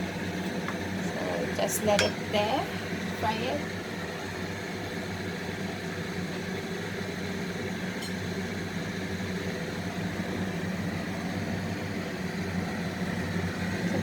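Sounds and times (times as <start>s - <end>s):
exhaust fan humming: 0.0s - 14.0s.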